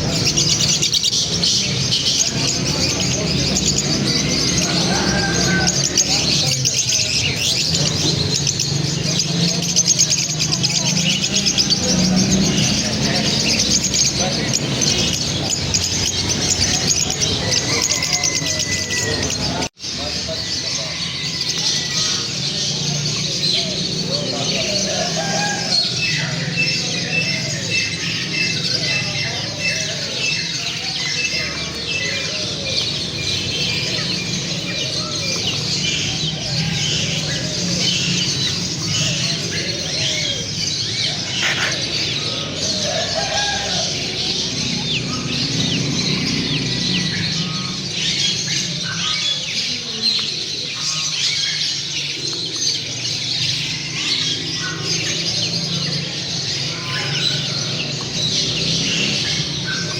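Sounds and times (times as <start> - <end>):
birds twittering: 0.0 - 59.9
lower arching bird calls: 0.0 - 59.9.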